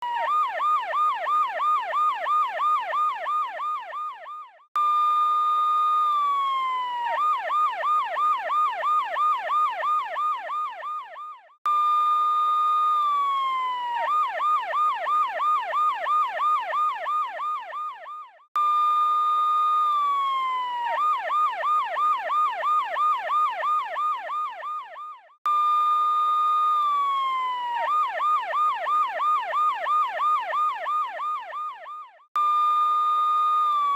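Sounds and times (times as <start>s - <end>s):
police siren yelping: 0.0s - 33.9s.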